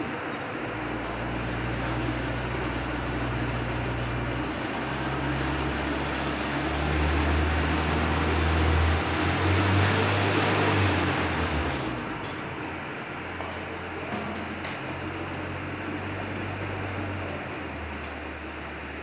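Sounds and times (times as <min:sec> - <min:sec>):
constant noise: 0:00.0 - 0:19.0
engine running with low hum: 0:00.0 - 0:19.0.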